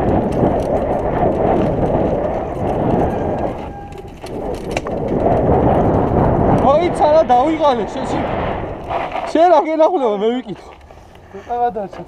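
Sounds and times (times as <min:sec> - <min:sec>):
bike rattling over bumps: 0:00.0 - 0:12.0
bike tyres on rough dirt: 0:00.0 - 0:12.0.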